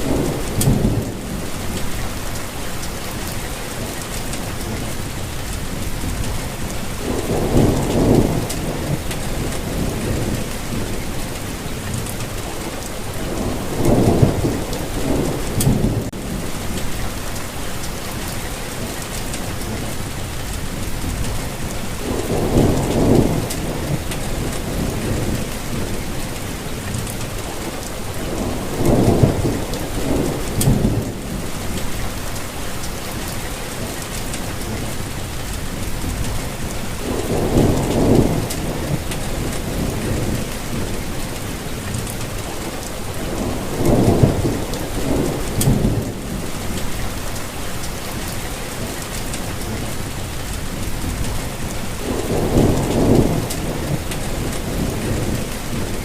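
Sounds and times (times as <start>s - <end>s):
thunder rumbling: 0.0s - 18.8s, 19.4s - 56.0s
steady rainfall: 0.0s - 56.0s.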